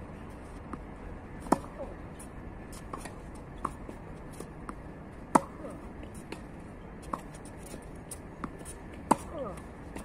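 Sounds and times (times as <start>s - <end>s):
tennis ball bouncing: 0.7s - 1.9s, 2.7s - 10.0s
tennis ball off racket: 0.7s - 1.9s, 2.7s - 10.0s.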